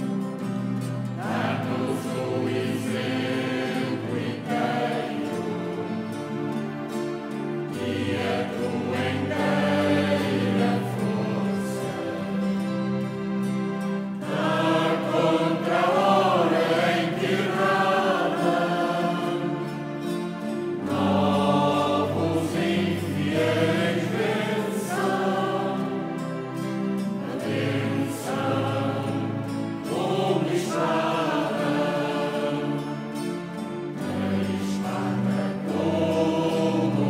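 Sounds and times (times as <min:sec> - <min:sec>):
mixed choir singing in parts: 0:00.0 - 0:37.0.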